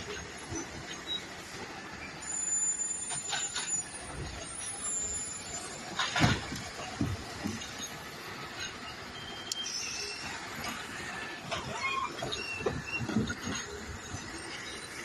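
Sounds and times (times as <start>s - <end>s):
garbage truck running: 0.0s - 15.0s.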